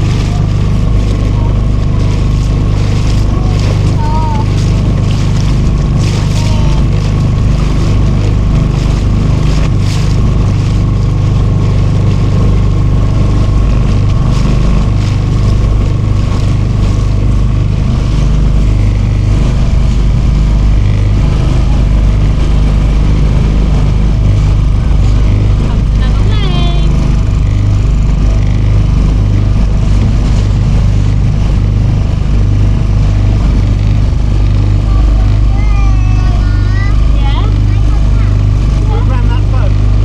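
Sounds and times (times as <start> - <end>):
motorboat engine humming: 0.0 - 40.0.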